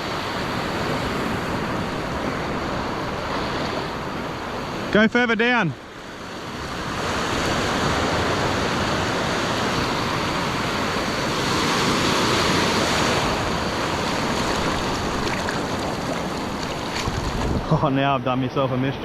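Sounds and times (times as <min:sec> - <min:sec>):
ocean surf on rocks: 0:00.0 - 0:19.0.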